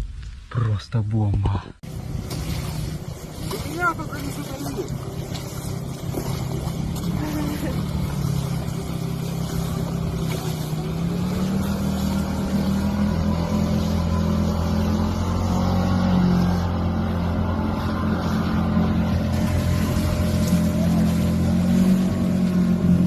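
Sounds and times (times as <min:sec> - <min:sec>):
boat motor running: 0:01.8 - 0:23.0.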